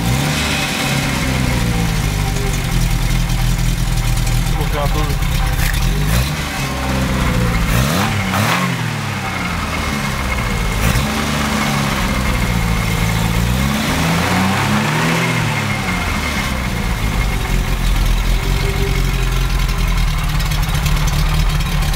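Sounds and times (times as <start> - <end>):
car engine idling and revving: 0.0 - 21.9.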